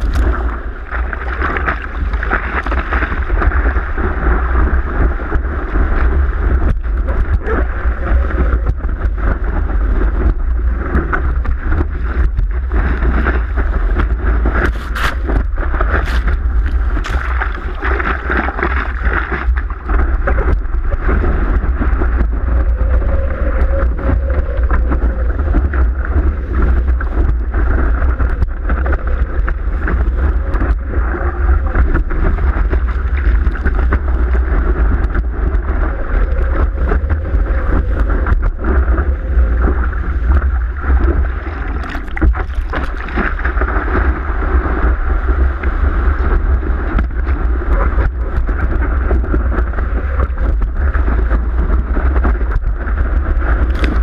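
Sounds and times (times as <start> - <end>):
water rushing and splashing: 0.0 - 54.0
wind buffeting microphone: 0.0 - 54.0.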